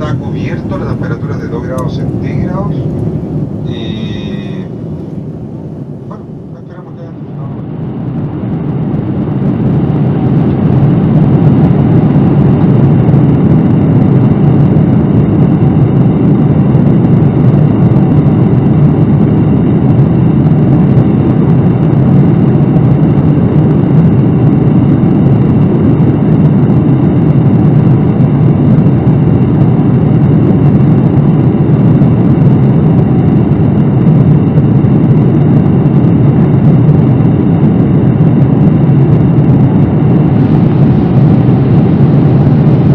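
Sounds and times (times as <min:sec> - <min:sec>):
airplane cabin engine rumble: 0:00.0 - 0:42.9.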